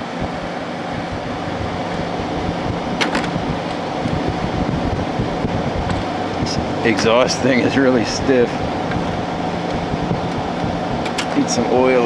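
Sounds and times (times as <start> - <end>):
air conditioner fan rushing: 0.0 - 12.0
low hum: 0.0 - 12.0.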